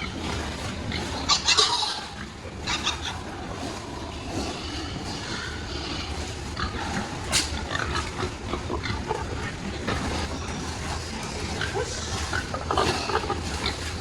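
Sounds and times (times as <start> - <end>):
pigs grunting: 0.0 - 14.0
steady low hum: 0.0 - 14.0.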